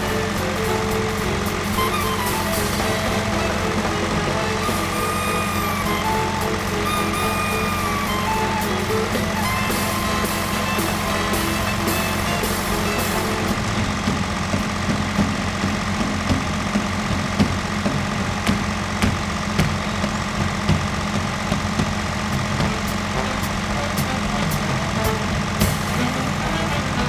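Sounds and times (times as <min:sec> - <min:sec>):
diesel machinery idling: 0:00.0 - 0:27.0.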